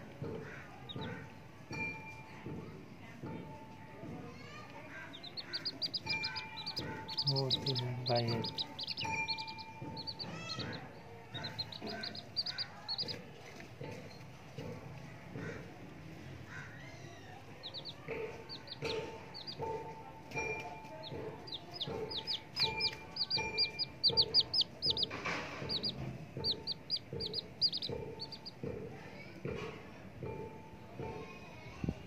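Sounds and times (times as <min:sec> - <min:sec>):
baby chicks peeping: 0:00.0 - 0:31.3
quiet background music: 0:00.0 - 0:32.0.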